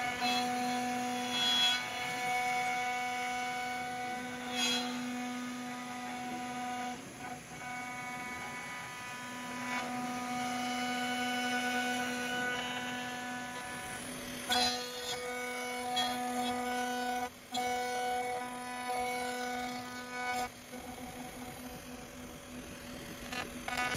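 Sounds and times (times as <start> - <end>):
bit cutting wood: 0.0 - 23.9
router spindle whining: 0.0 - 23.9.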